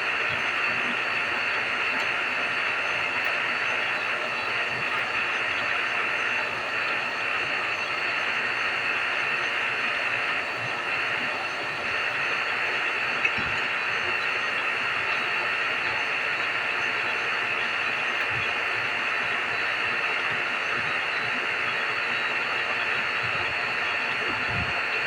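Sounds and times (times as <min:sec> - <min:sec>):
vacuum pump running: 0:00.0 - 0:25.0.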